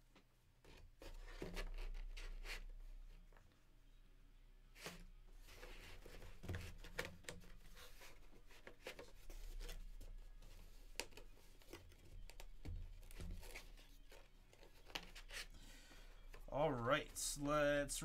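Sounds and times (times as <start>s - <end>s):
cards and plastic holders rustling: 0.0s - 3.6s, 4.7s - 18.0s.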